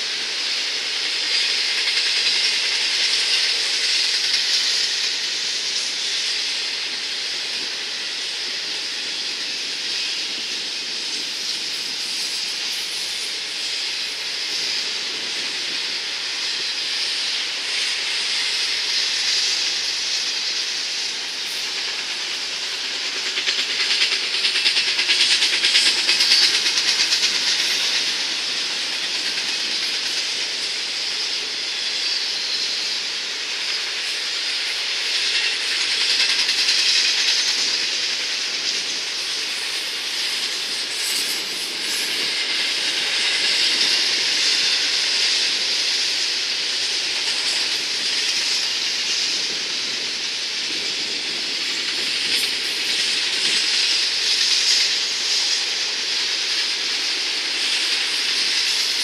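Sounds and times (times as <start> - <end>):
train wheels rushing on rails: 0.0 - 59.0
wheels clickety-clack: 0.0 - 59.0.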